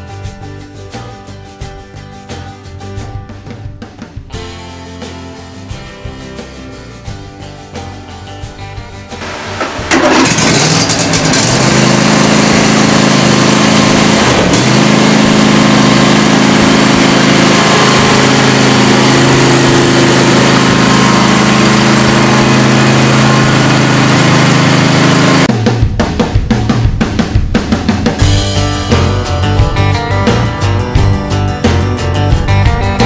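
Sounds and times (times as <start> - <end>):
mower engine starting and running: 5.5 - 33.0.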